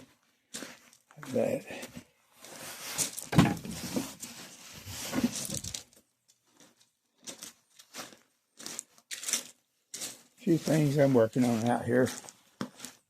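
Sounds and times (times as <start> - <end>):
footsteps: 0.0 - 5.9, 6.6 - 13.0
scuffing and rustling: 0.0 - 6.0, 7.3 - 13.0.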